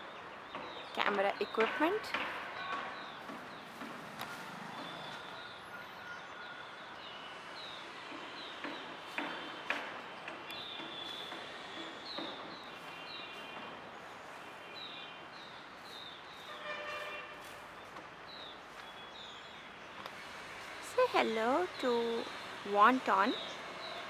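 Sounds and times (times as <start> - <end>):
birds chirping: 0.0 - 17.2, 17.8 - 20.2, 20.9 - 24.0
soft outdoor hiss: 0.0 - 24.0.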